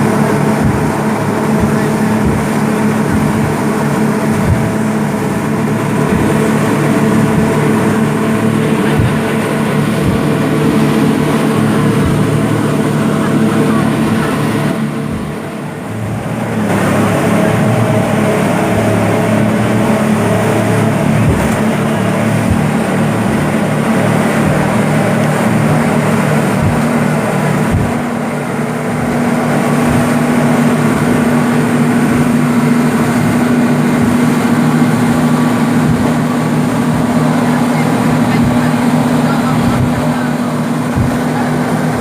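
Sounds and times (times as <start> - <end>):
low thumps: 0.0 - 42.0
motorboat engine droning: 0.0 - 42.0
wind and water noise: 0.0 - 42.0.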